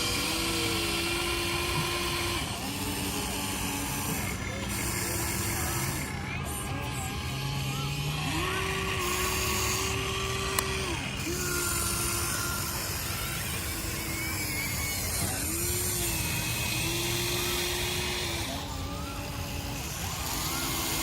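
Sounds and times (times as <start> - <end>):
toy excavator motors whining: 0.0 - 21.0.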